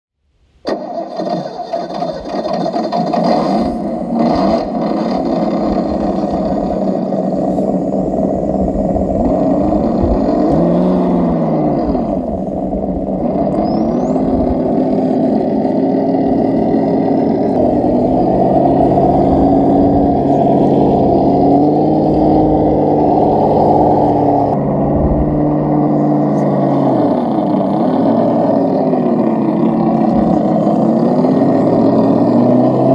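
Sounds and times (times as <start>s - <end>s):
simulated truck engine revving: 0.6s - 32.9s.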